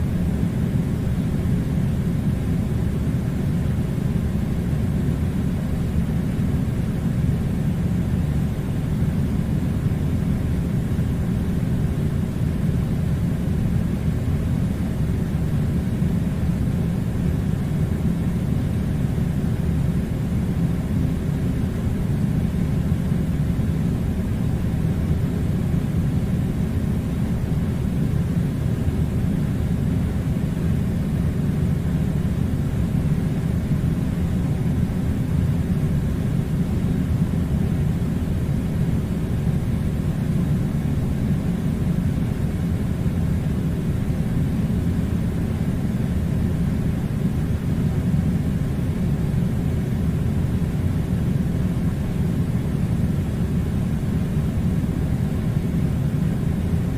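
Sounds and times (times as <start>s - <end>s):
air conditioner rumbling: 0.0s - 56.9s.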